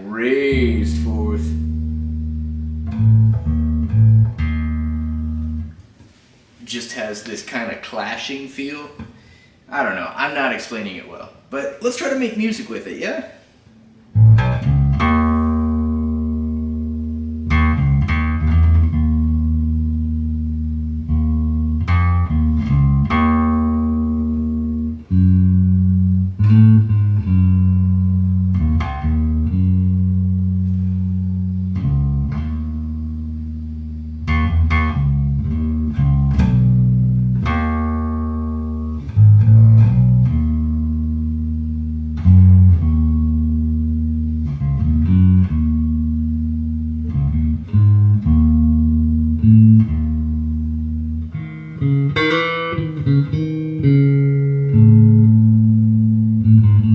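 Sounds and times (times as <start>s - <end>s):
electric bass guitar notes: 0.0s - 6.0s, 14.0s - 56.9s.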